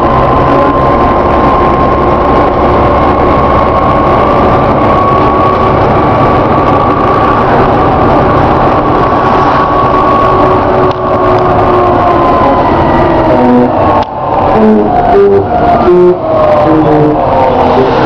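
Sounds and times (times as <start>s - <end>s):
bus engine and road rumble: 0.0s - 18.0s
groaning tone: 0.0s - 18.0s.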